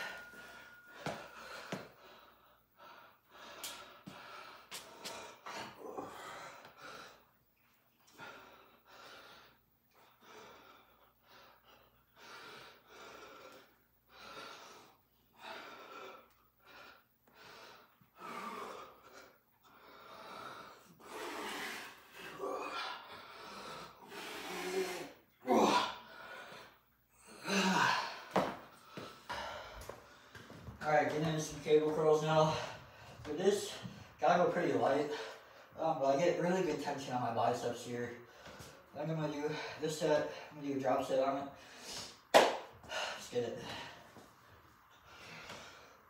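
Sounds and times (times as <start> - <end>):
man breathing hard and gasping: 0.0 - 7.4, 8.0 - 30.6, 32.2 - 34.2, 34.8 - 35.8, 41.2 - 46.0.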